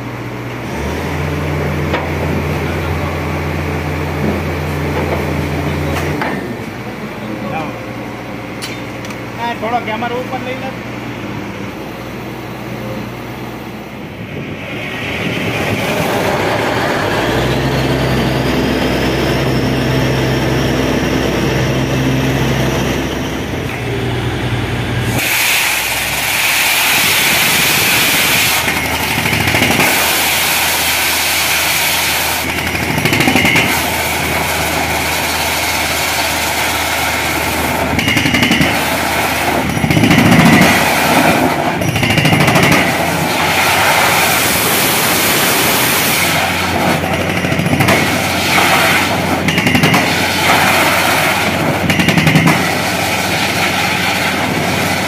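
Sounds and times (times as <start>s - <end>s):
drilling rig engine humming: 0.0s - 55.0s
rising whine: 1.0s - 55.0s
loud dense rushing noise: 9.3s - 55.0s.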